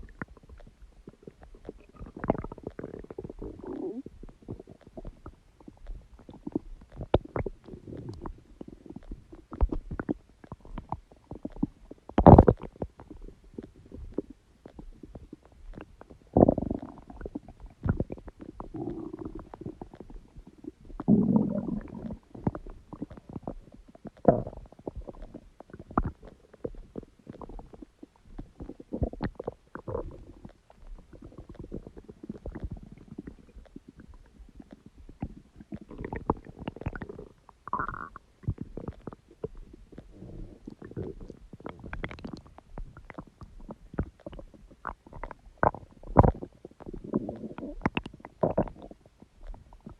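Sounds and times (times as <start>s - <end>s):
stomach rumbling and gurgling: 0.0s - 49.9s.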